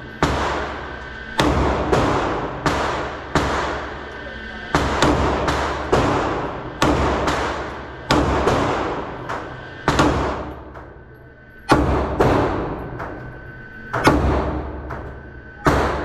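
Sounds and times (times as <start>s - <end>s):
pistol shots echoing indoors: 0.0s - 16.0s.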